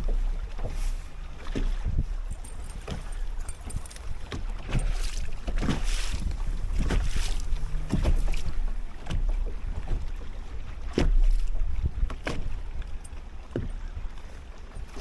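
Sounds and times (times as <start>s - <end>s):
waves slapping boat hull: 0.0s - 15.0s
wind rumbling on microphone: 0.0s - 15.0s.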